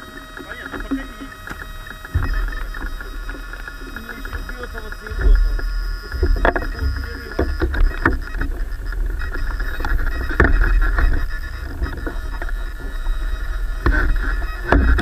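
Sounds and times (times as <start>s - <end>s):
high drivetrain whine: 0.0s - 15.0s
wind buffeting microphone: 0.0s - 15.0s
short knocks: 0.2s - 15.0s.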